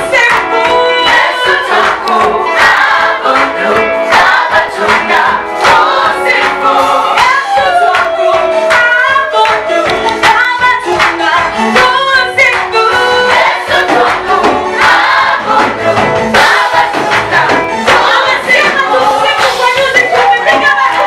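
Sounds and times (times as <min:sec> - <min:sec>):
choir singing gospel song: 0:00.0 - 0:21.0
instrumental backing with steady beat: 0:00.0 - 0:21.0.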